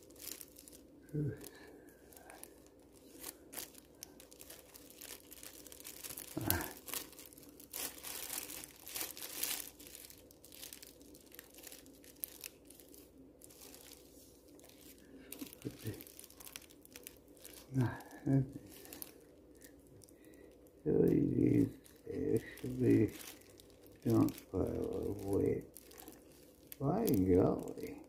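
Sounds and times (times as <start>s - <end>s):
plastic wrap crinkling and tearing: 0.0s - 28.0s.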